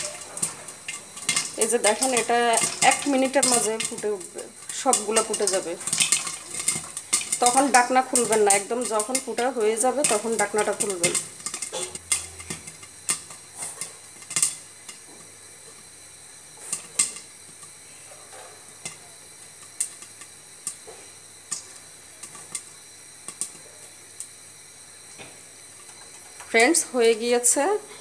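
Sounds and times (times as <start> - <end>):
oil sizzling: 0.0 - 28.0
popcorn kernels popping: 0.0 - 28.0.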